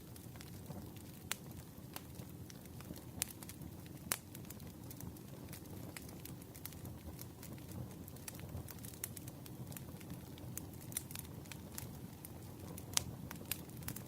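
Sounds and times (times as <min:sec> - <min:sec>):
campfire crackling and popping: 0:00.0 - 0:14.0
low rumble of burning wood: 0:00.0 - 0:14.0.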